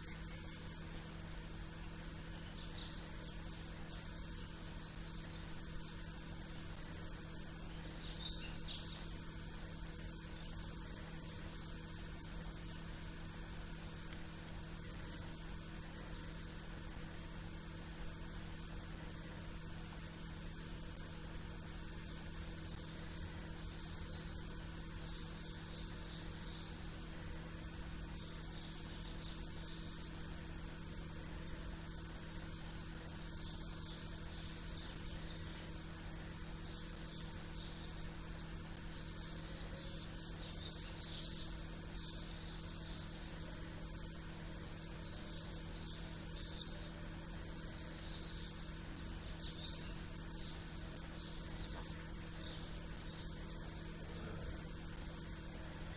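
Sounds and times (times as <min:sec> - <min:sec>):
small birds chirping: 0:00.0 - 0:55.9
steady hum and hiss: 0:00.0 - 0:55.9.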